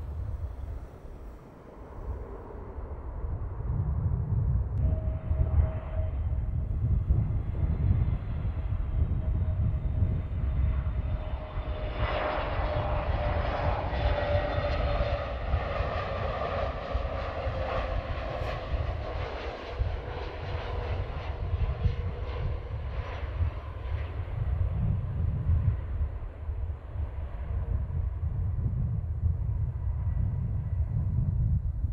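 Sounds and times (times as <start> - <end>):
jet engines on approach: 0.0 - 31.6
low rumble: 0.0 - 31.9.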